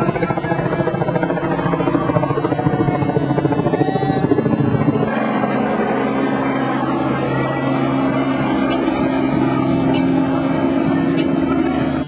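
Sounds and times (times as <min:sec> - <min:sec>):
helicopter rotor chop: 0:00.0 - 0:12.0.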